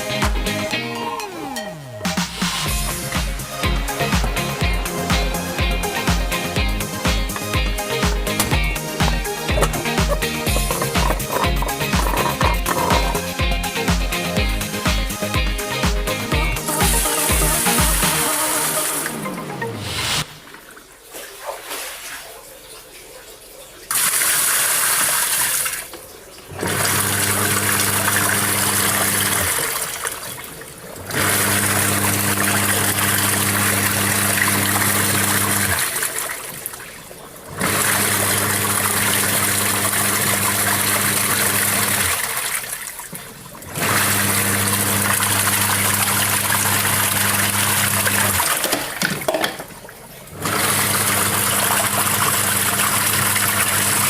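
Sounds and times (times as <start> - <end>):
washing machine churning water: 2.1 - 19.4, 20.2 - 54.0.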